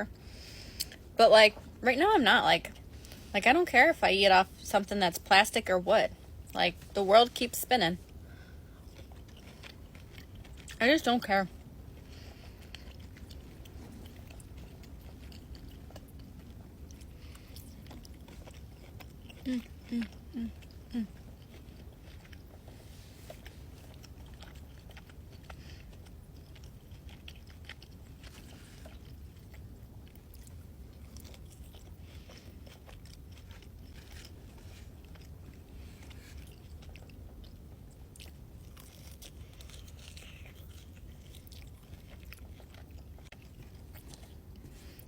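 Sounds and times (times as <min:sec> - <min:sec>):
steady low hum: 0:00.0 - 0:45.0
person chewing: 0:08.0 - 0:10.8, 0:11.5 - 0:45.0.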